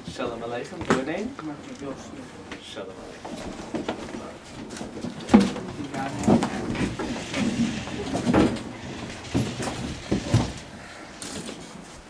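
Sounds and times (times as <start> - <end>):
knocks and shuffling at desks: 0.0 - 12.0
people murmuring: 0.8 - 11.0.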